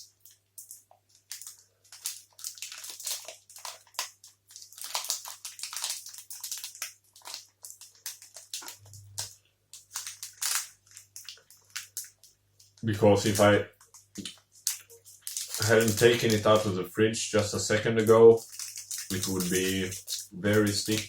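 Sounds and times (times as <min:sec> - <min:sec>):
wrapper crackling and crunching: 0:00.0 - 0:16.7, 0:18.1 - 0:21.0.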